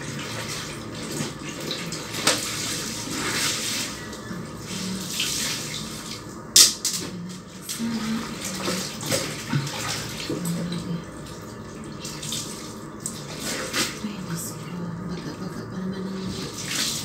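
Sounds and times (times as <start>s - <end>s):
water splashing in a tub: 0.0s - 17.0s.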